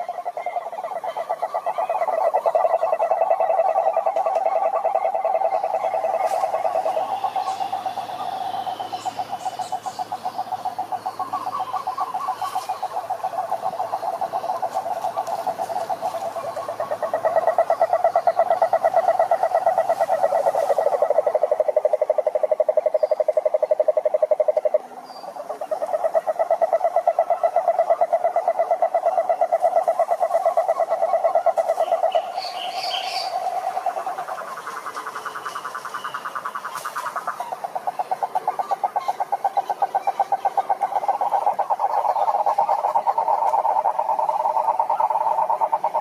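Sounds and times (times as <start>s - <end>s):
toads trilling: 0.0s - 46.0s.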